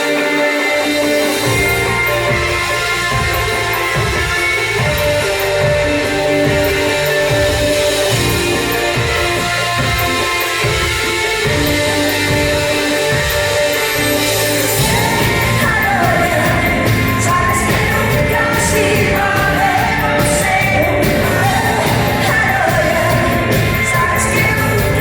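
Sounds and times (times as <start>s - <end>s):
live pop band playing: 0.0s - 25.0s
person singing: 0.0s - 25.0s
drum beat: 1.4s - 25.0s.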